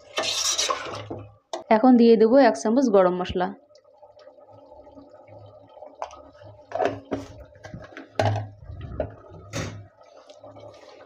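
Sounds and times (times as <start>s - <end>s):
curry simmering with soft plops: 0.0s - 11.0s.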